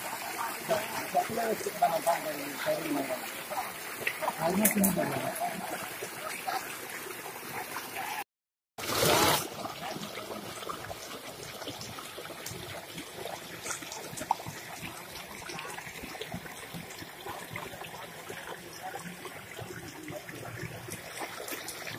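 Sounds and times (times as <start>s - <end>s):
stream water splashing over stones: 0.0s - 8.2s, 8.8s - 21.9s.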